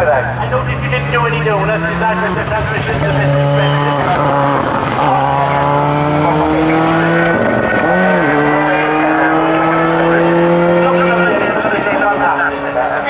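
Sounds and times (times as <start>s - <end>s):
rally car engine under load: 0.0s - 13.0s.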